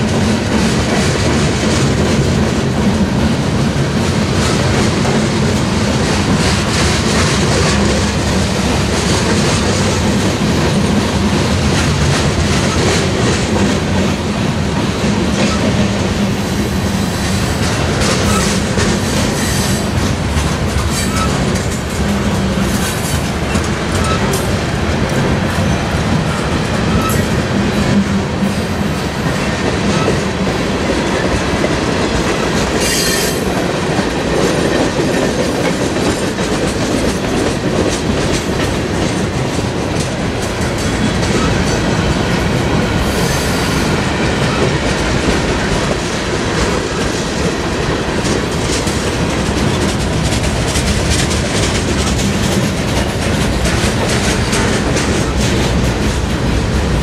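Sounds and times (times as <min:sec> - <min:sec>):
train wheels rumbling and clacking: 0:00.0 - 0:57.0.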